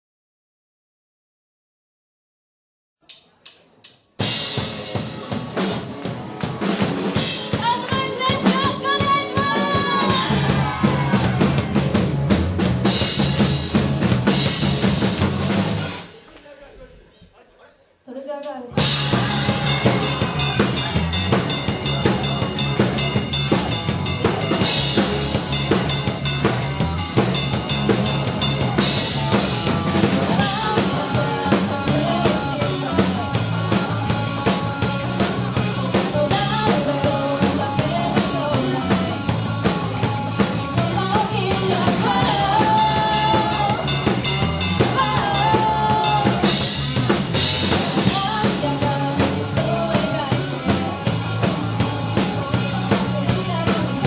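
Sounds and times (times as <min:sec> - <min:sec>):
band music with drum kit: 0:04.1 - 0:16.6, 0:18.7 - 0:54.0.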